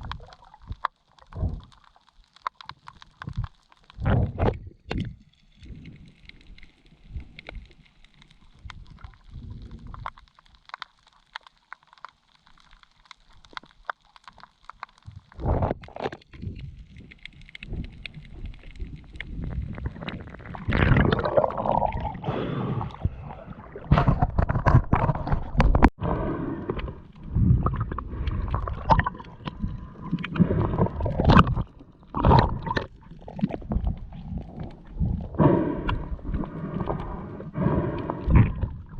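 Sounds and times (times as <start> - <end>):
underwater gurgling and sloshing: 0.0 - 38.9.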